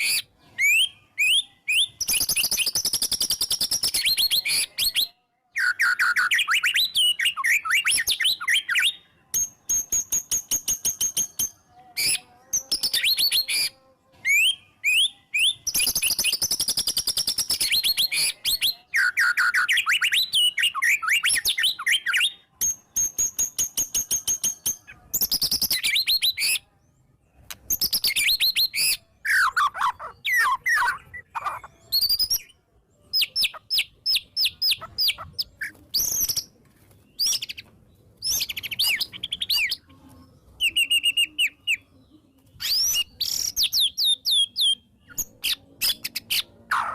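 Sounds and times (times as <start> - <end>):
bird singing varied song: 0.0 - 46.9.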